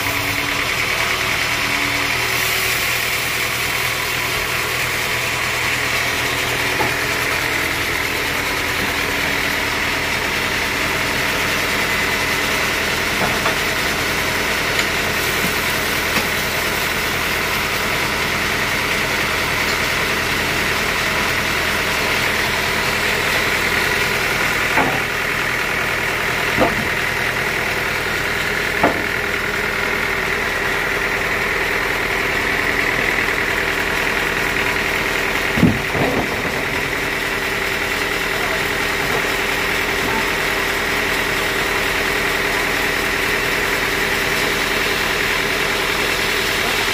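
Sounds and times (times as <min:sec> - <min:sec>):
band sawmill humming and whining: 0:00.0 - 0:46.9.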